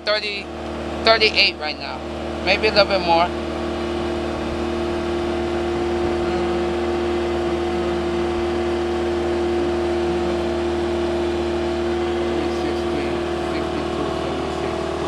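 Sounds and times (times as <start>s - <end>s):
lift engine droning: 0.0s - 15.0s.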